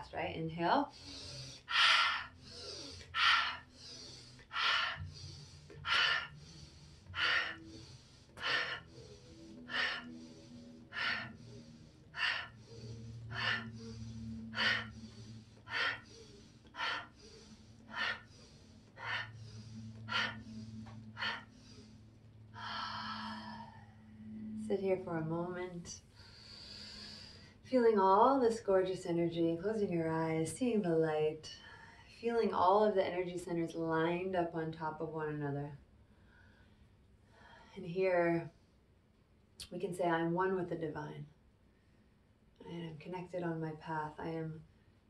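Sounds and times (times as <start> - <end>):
woman's forceful rhythmic breathing: 0.0 - 34.0, 35.8 - 38.8.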